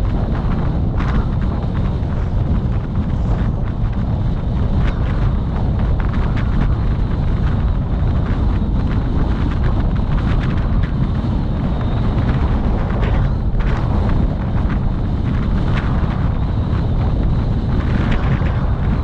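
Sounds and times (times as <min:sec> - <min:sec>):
vehicle road rumble: 0:00.0 - 0:19.0
wind buffeting microphone: 0:00.0 - 0:19.0.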